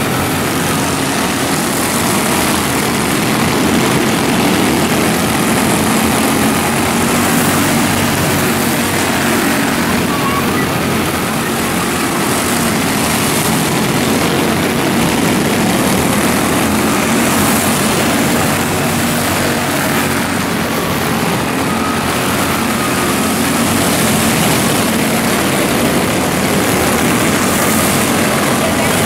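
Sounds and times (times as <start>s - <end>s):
small race car engines droning: 0.0s - 29.0s.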